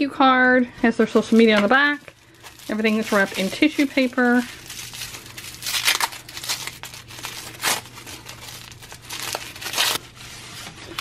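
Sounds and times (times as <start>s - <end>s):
tissue paper crinkling: 1.0s - 11.0s.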